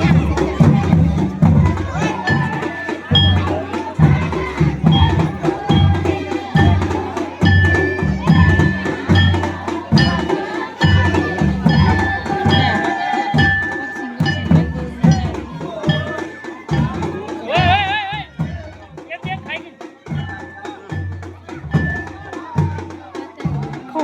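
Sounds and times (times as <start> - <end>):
driving drum beat: 0.0 - 24.0.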